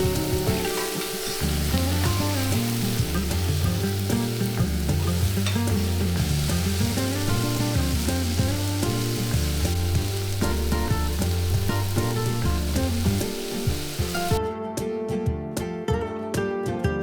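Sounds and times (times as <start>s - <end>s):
food sizzling in a pan: 0.0s - 14.4s
background music: 0.0s - 17.0s.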